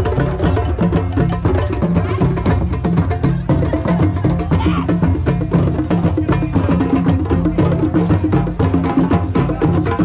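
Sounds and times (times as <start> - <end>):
hand drums playing rhythm: 0.0 - 10.0.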